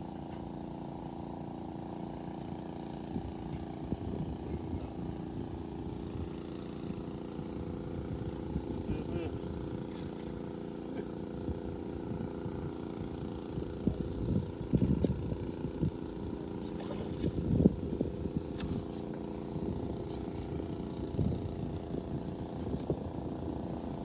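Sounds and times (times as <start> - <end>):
motor droning: 0.0 - 24.0.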